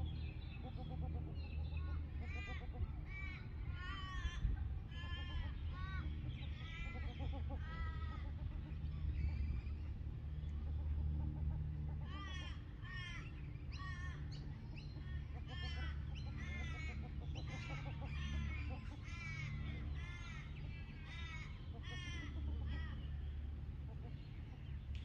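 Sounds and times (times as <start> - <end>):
ducks calling: 0.0 - 25.0
steady low rumble: 0.0 - 25.0.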